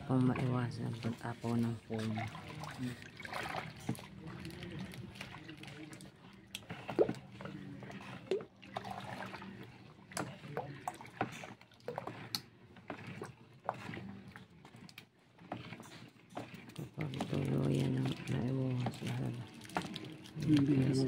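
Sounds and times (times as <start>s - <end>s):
paddle stirring soapy water: 0.0s - 21.0s
water being poured: 0.4s - 21.0s.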